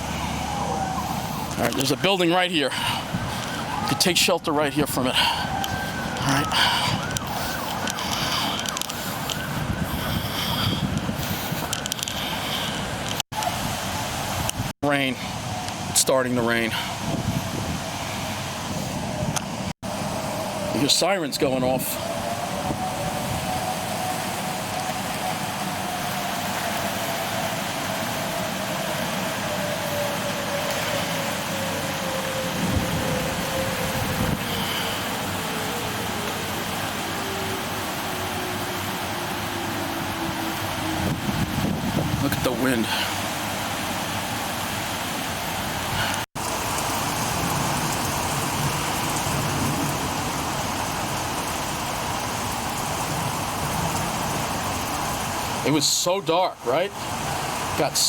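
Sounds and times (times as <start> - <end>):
siren wailing: 0.0 - 55.6
rain: 0.0 - 58.0
wind: 0.0 - 58.0.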